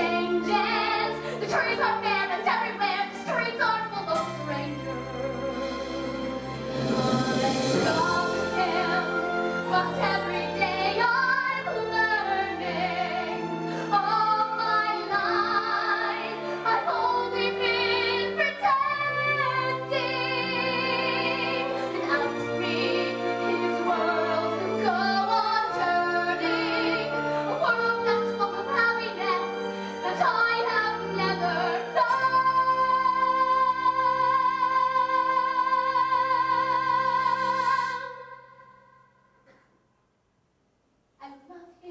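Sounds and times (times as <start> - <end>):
instrumental accompaniment: 0.0 - 38.0.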